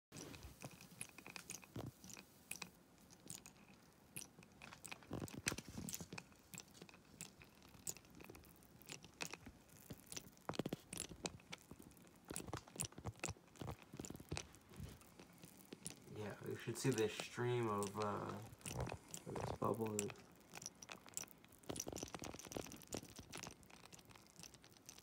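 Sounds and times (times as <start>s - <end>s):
water crackling as it heats: 0.2s - 25.0s.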